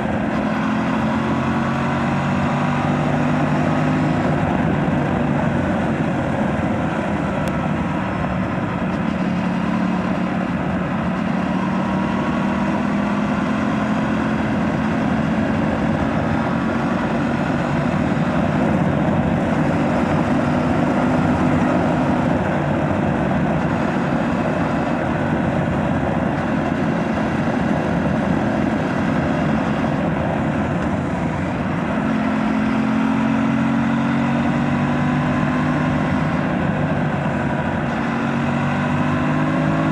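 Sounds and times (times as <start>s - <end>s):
motorcycle engine riding: 0.0s - 39.9s
rush of noise: 0.0s - 39.9s.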